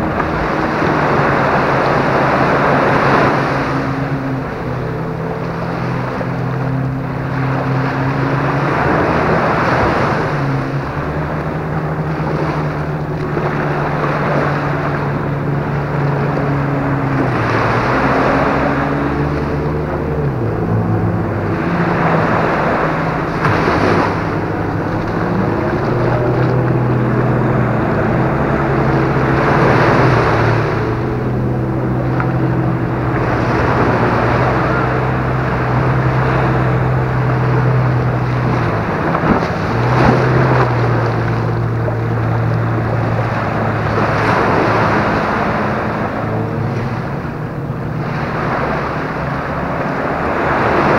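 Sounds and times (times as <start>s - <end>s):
motorboat engine drone: 0.0s - 50.9s
waves washing up a sandy beach: 0.0s - 50.9s.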